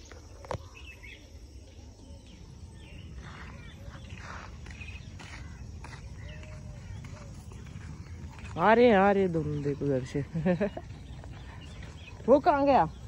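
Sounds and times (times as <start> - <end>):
faint bird chirps: 0.0 - 13.0
low wind rumble: 0.0 - 13.0.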